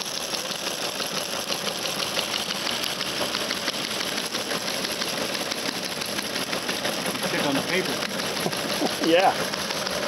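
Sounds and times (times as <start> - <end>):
teletype machine clattering: 0.0 - 10.0.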